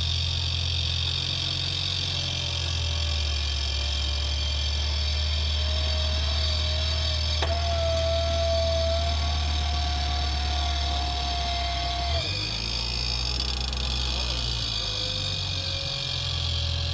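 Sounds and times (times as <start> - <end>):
engine running under load: 0.0 - 16.9.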